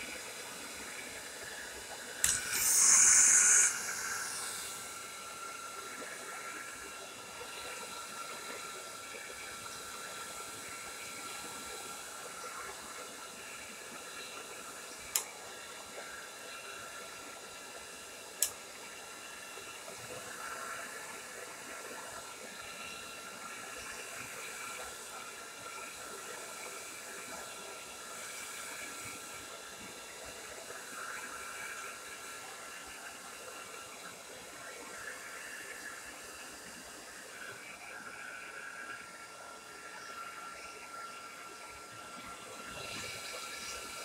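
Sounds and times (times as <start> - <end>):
hair dryer running: 0.0 - 44.0.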